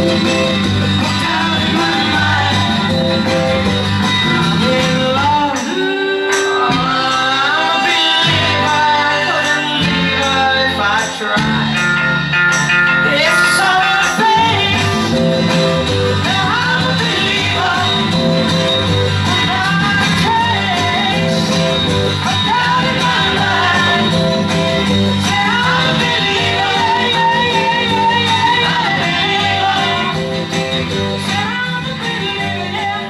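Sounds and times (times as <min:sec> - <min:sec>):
song with sliding pitches: 0:00.0 - 0:33.0.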